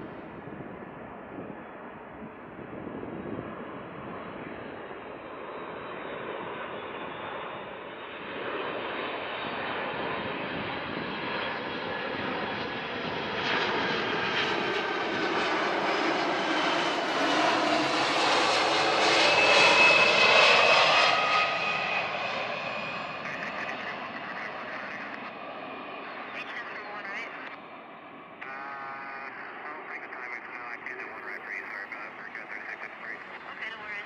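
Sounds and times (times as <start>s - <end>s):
jet airliner passing low: 0.0s - 34.0s.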